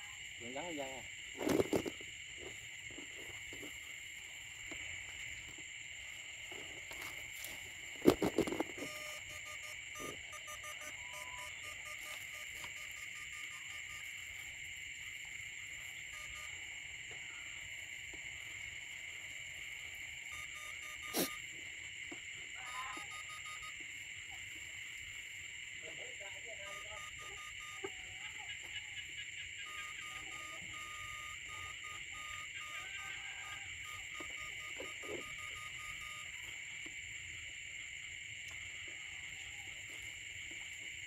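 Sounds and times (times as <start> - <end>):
night insects and frogs chorus: 0.0 - 41.0.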